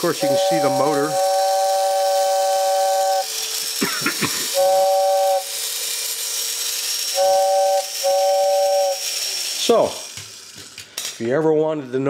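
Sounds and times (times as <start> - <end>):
toy train whistle toots: 0.0 - 10.1.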